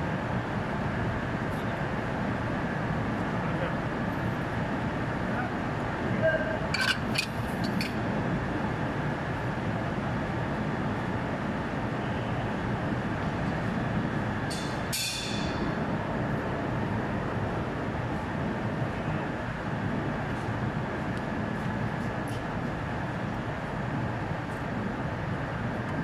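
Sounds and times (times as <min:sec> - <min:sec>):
chiller machinery drone: 0:00.0 - 0:26.0.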